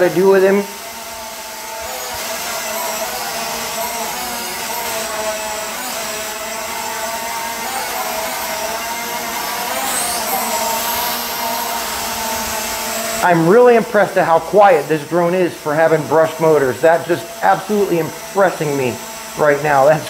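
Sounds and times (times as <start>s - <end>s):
drone hovering: 0.0s - 20.0s.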